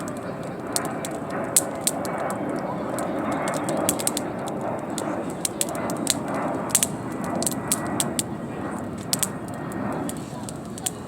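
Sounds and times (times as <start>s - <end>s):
campfire crackling: 0.0s - 11.0s
fire burning rush: 0.0s - 11.0s.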